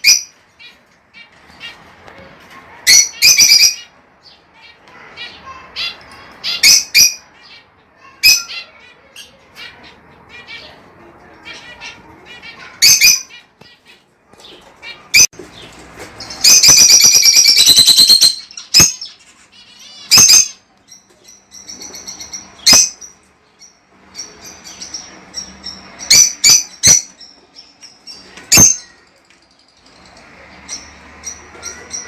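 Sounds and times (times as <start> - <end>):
lovebirds chattering: 0.0 - 32.0.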